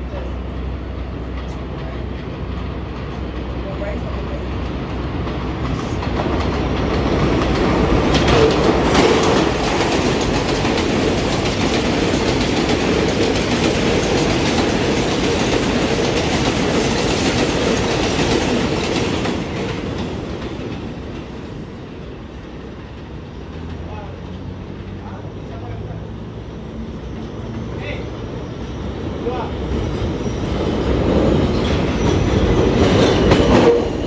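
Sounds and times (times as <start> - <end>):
subway train on elevated steel track: 0.0 - 34.0.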